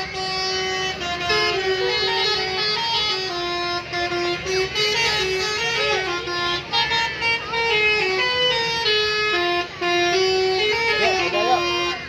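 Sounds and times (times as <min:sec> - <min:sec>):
low engine rumble: 0:00.0 - 0:12.0
musical air horn melody: 0:00.0 - 0:12.0.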